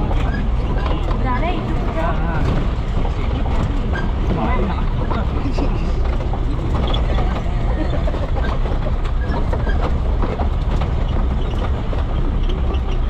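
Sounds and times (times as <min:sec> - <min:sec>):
off-road vehicle engine rumble: 0:00.0 - 0:13.0
vehicle rattles and knocks: 0:00.0 - 0:13.0.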